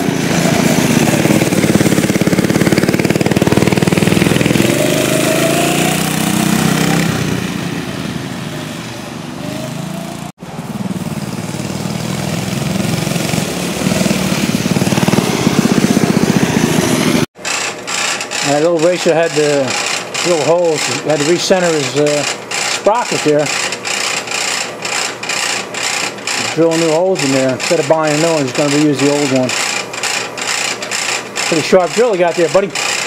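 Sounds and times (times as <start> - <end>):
mini bike engine revving: 0.0 - 33.0.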